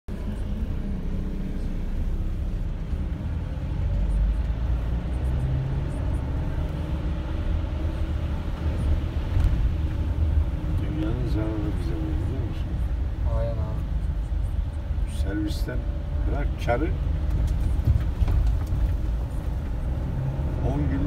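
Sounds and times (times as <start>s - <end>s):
vehicle engine rumble: 0.1s - 21.0s.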